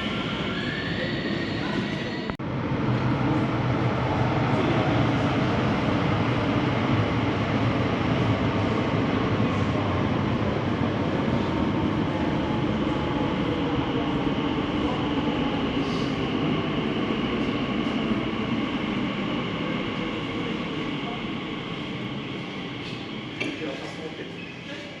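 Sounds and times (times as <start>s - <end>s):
underground train rumble: 0.0s - 25.0s.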